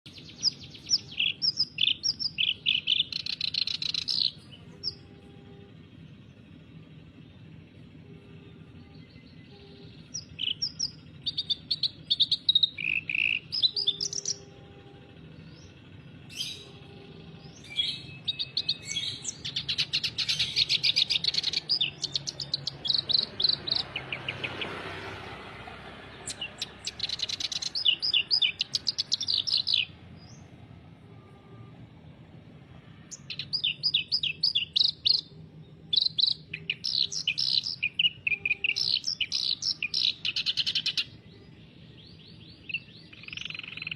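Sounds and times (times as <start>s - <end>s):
reed warbler singing: 0.1s - 5.1s, 8.5s - 14.6s, 15.3s - 30.6s, 33.0s - 43.9s.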